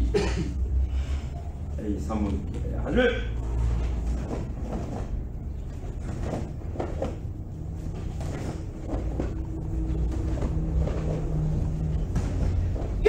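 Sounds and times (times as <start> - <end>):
low hum: 0.0 - 13.0
low rumble: 0.6 - 13.0.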